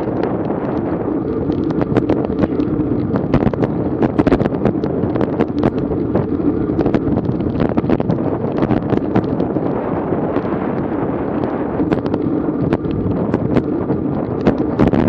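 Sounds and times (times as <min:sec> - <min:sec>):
sharp clicks and rattles: 0:00.0 - 0:15.0
wind buffeting microphone: 0:00.0 - 0:15.0.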